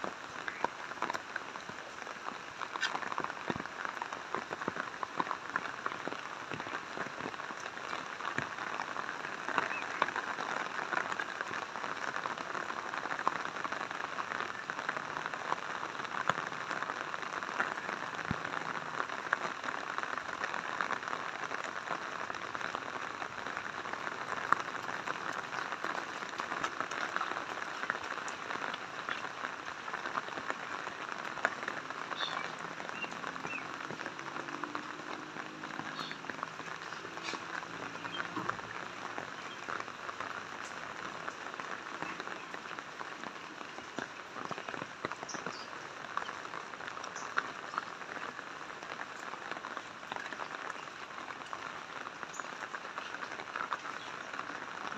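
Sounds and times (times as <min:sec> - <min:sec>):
rain splashing on ground: 0:00.0 - 0:54.9.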